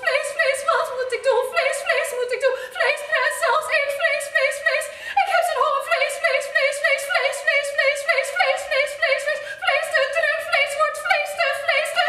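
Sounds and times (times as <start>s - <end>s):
woman singing soprano: 0.0s - 12.0s.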